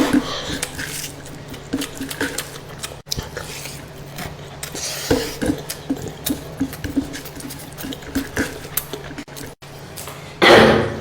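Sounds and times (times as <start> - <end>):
mouth chewing food: 0.0 - 10.2.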